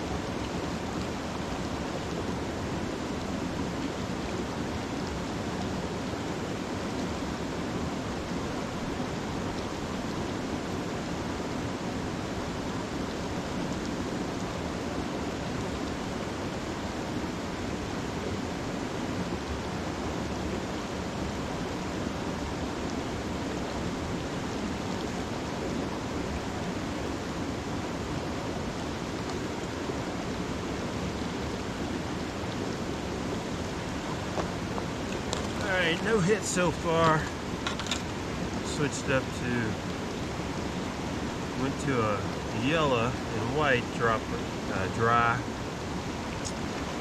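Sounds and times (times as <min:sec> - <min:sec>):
stream running over rocks: 0:00.0 - 0:47.0.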